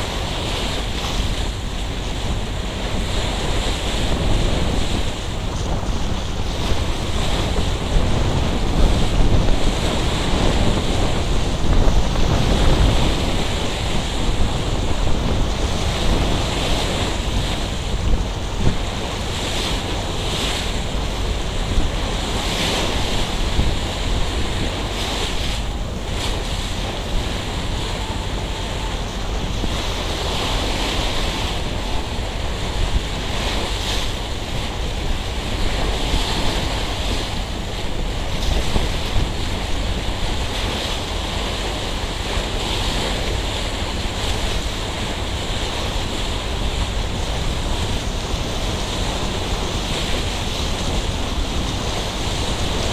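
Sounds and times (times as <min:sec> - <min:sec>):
sea water rushing along a boat: 0:00.0 - 0:52.9
wind buffeting the microphone: 0:00.0 - 0:52.9.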